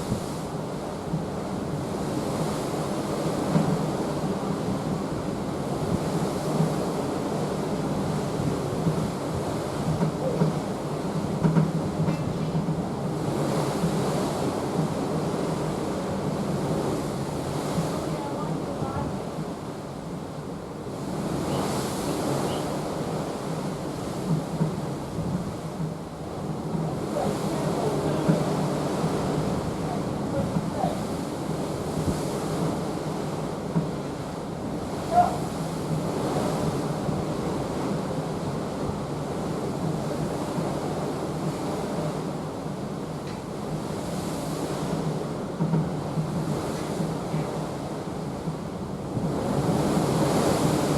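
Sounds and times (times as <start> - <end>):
sea rushing past ship hull: 0.0 - 50.9
wind buffeting microphone: 0.0 - 50.9.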